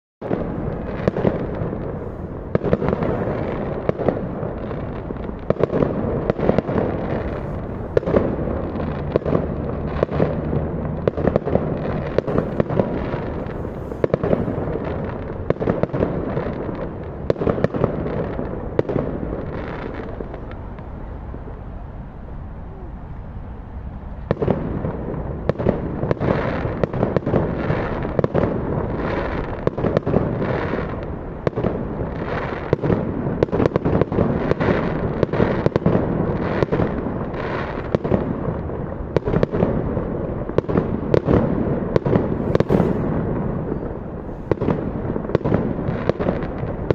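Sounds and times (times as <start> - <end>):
fireworks bangs and crackles: 0.2 - 46.9
fireworks rumble: 0.2 - 46.9.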